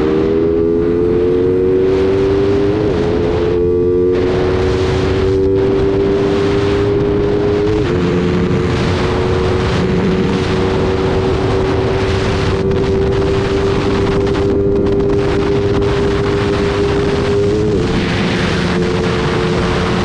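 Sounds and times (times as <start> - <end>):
motorcycle engine at speed: 0.0 - 20.0
wind rush on microphone: 0.0 - 20.0.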